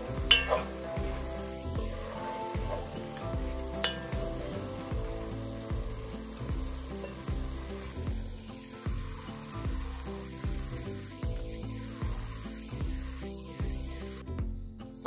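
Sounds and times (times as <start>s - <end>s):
background music with beat: 0.0s - 15.0s
meat and onions sizzling: 0.0s - 15.0s.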